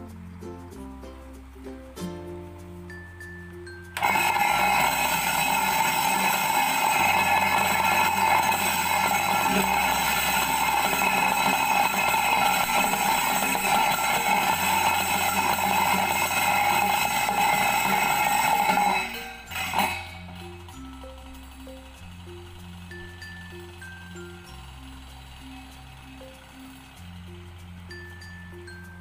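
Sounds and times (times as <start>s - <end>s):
oil spinner motor whine: 2.8s - 29.0s.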